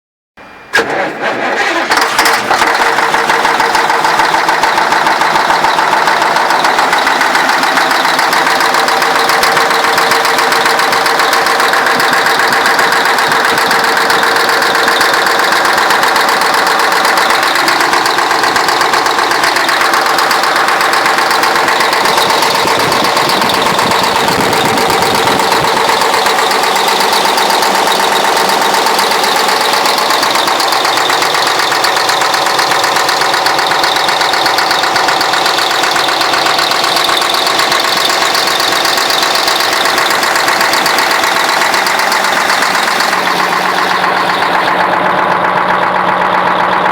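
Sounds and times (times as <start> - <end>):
diesel engine running with knock: 0.7 - 46.9.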